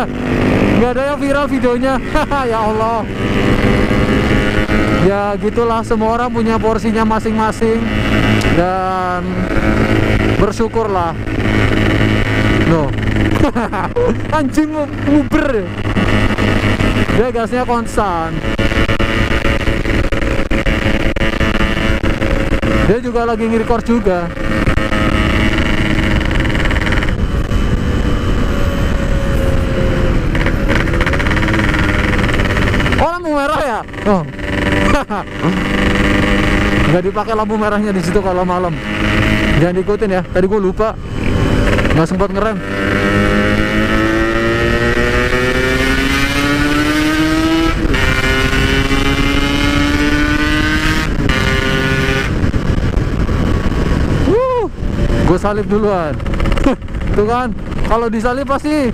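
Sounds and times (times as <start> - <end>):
motorcycle engine: 0.0 - 58.9
wind noise: 0.0 - 58.9.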